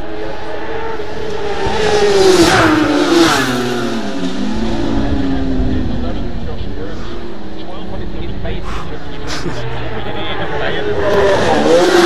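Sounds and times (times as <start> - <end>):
motorbike passing at high speed: 0.0 - 12.0.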